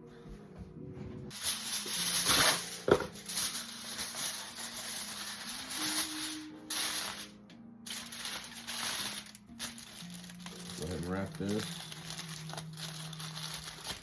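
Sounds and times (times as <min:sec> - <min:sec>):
aluminum foil crinkling: 0:01.3 - 0:14.0.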